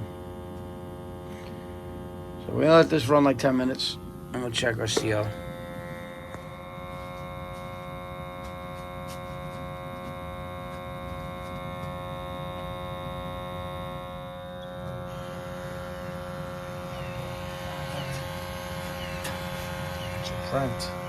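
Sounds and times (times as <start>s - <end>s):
gas boiler humming: 0.0s - 21.0s.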